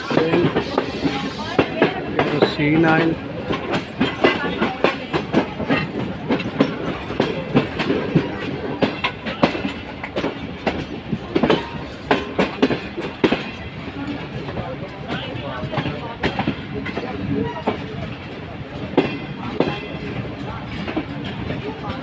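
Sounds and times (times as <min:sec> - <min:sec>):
train rumble: 0:00.0 - 0:22.0
train wheels clattering on rail joints: 0:00.0 - 0:22.0.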